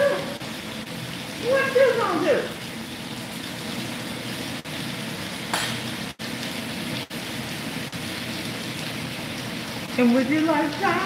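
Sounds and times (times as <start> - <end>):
cooking sizzle crackling: 0.0 - 11.0.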